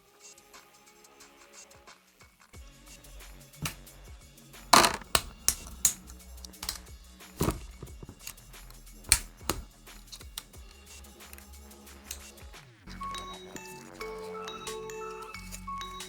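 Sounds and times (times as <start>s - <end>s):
background music: 2.6s - 16.0s.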